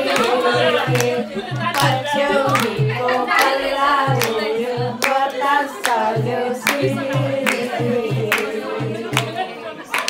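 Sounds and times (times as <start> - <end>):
voices singing folk song: 0.0 - 9.9
hand claps: 0.1 - 4.4, 5.0 - 8.5, 9.1 - 10.0.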